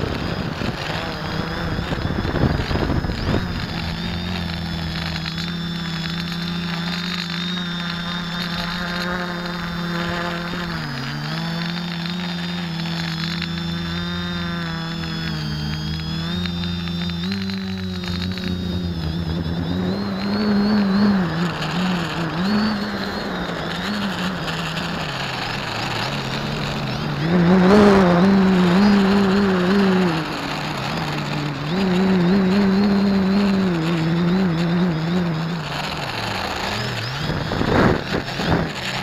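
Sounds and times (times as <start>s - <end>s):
drone propellers buzzing: 0.0s - 39.0s.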